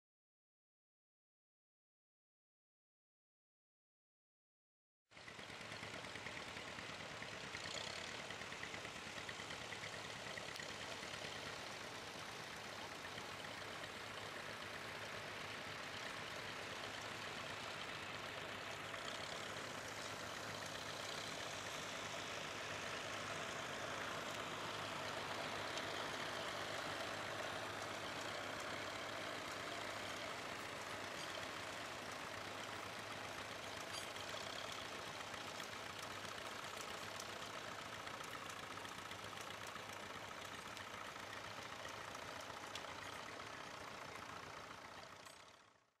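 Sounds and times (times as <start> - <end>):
tractor engine running: 5.2 - 45.9.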